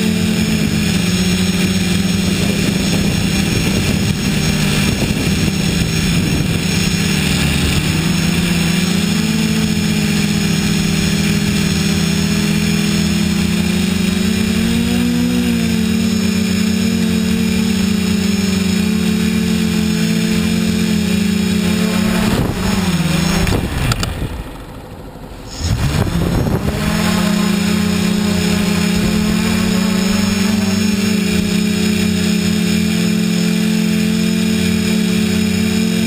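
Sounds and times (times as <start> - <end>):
quadcopter motors droning: 0.0 - 36.0.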